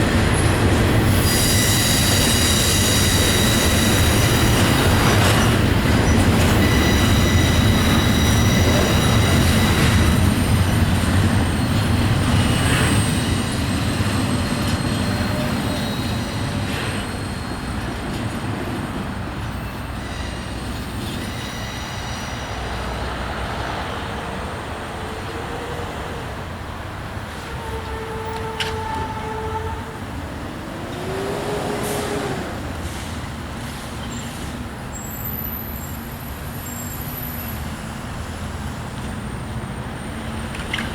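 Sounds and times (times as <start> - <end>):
freight train rumble: 0.0 - 40.9
train wheels squealing: 0.1 - 23.3, 27.3 - 37.9.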